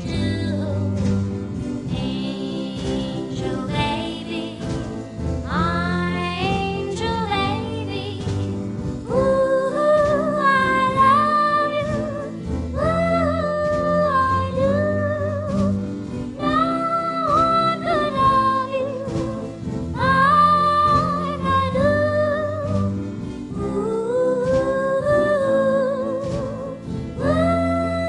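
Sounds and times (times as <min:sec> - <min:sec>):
slow band backing: 0:00.0 - 0:28.0
woman singing: 0:00.0 - 0:28.0.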